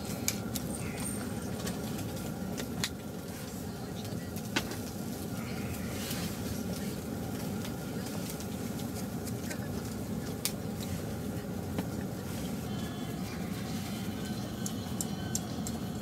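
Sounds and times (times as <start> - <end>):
gas stove burning rumble: 0.0 - 16.0.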